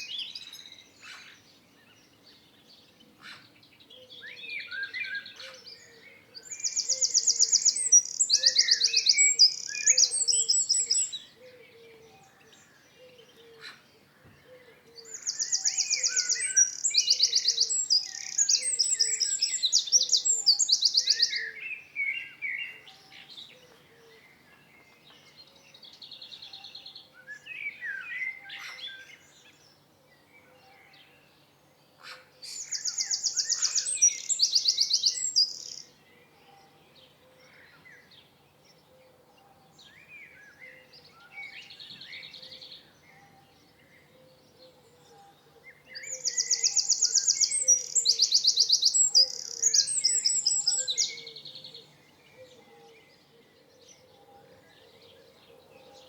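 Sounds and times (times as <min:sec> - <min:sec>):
songbirds trilling and warbling: 0:00.0 - 0:56.0.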